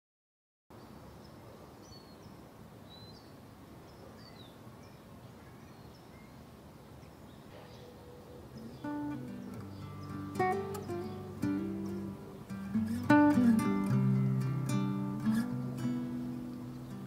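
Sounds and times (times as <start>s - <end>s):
low background hiss: 0.7s - 17.0s
bird chirps: 0.8s - 14.4s, 15.1s - 17.0s.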